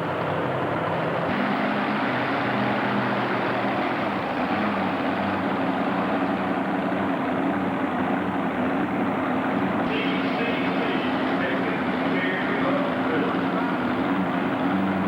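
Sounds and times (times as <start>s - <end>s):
tractor engine running loudly: 0.0s - 15.0s.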